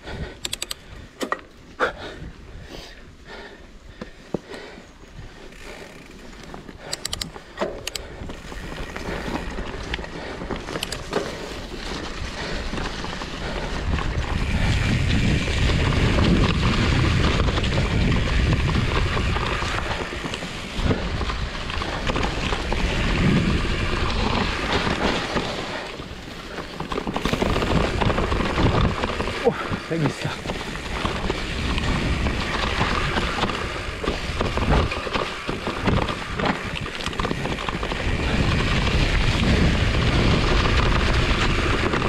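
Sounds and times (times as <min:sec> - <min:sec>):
bike clicks and rattles: 0:00.0 - 0:42.0
mountain bike tyres rumbling: 0:00.0 - 0:42.0
wind buffeting microphone: 0:06.8 - 0:42.0.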